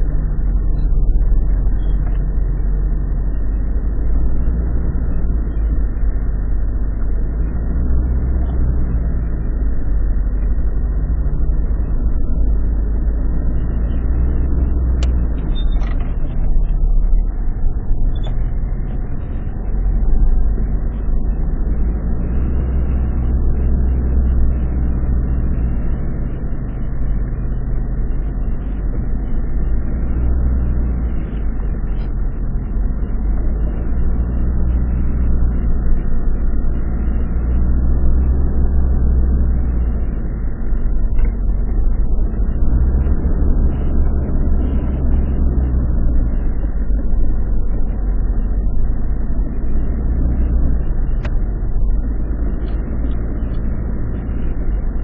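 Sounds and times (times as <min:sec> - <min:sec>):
off-road vehicle engine rumble: 0:00.0 - 0:55.0.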